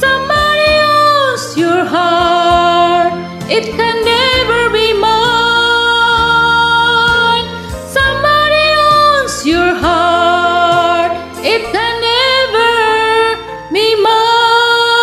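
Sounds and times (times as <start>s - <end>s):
karaoke backing track: 0.0s - 15.0s
person singing: 0.0s - 15.0s.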